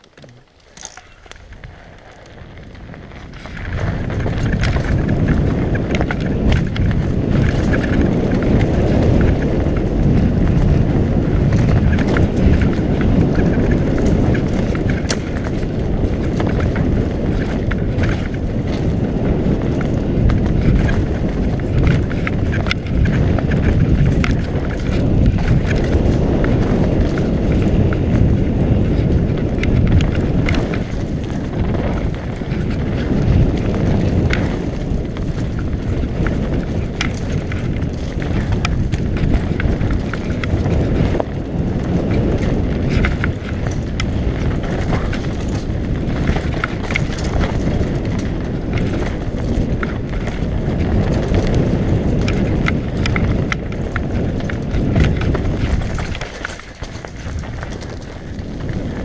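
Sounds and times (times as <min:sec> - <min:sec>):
bike rattling and clicking: 0:00.0 - 0:59.0
bike tyres on dirt: 0:00.0 - 0:59.0
wind buffeting microphone: 0:00.0 - 0:59.0.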